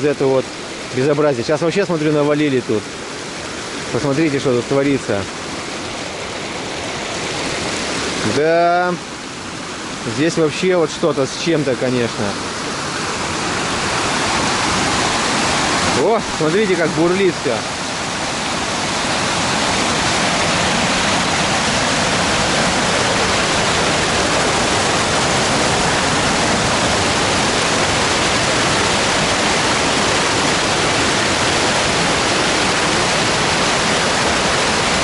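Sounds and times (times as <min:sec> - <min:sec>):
fast-flowing water rushing: 0:00.0 - 0:35.0.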